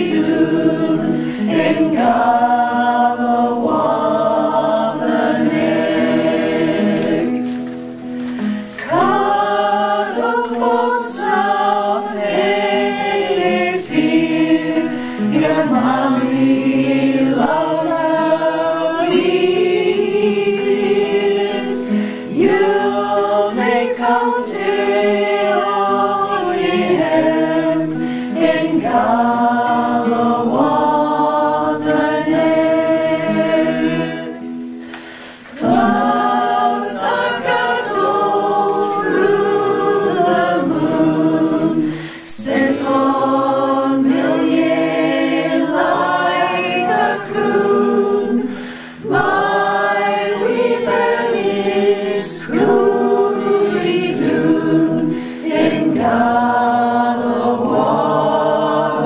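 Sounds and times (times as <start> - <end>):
small choir singing lullaby: 0.0 - 59.0.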